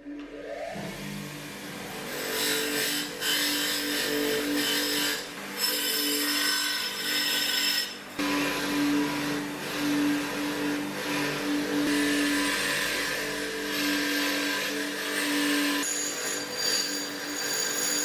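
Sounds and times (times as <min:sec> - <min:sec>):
bench grinder motor hum: 0:00.1 - 0:18.0.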